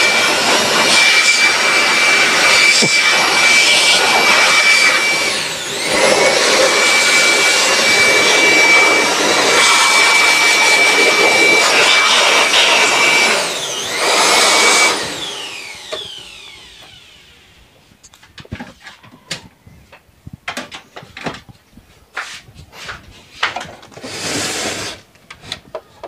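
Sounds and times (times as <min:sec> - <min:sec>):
electric air blower whining: 0:00.0 - 0:19.5, 0:23.5 - 0:25.8.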